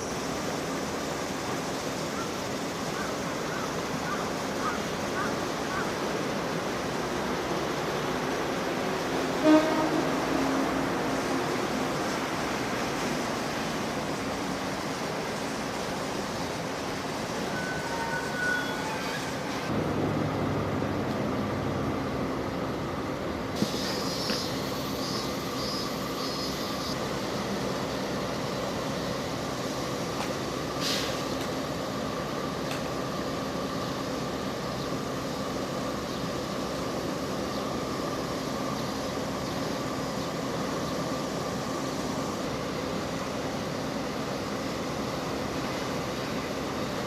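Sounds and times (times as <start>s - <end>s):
freight train rumbling on rails: 0.0s - 47.0s
machinery whirring and humming: 0.0s - 47.0s.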